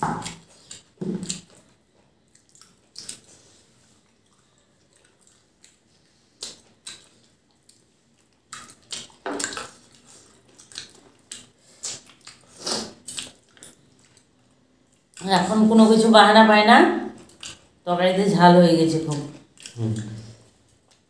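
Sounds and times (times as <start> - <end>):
lip smacks and chewing: 0.1 - 15.2, 17.2 - 17.8, 19.1 - 21.0.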